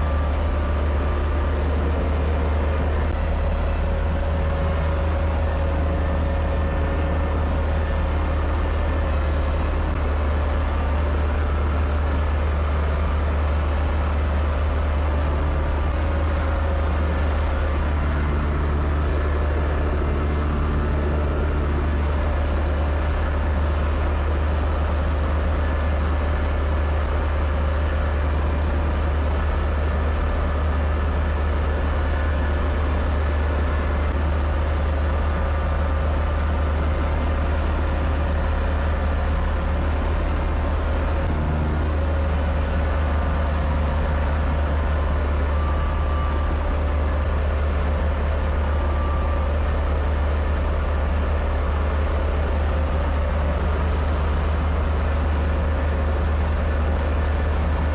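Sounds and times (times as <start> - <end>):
tractor engine droning: 0.0 - 57.9.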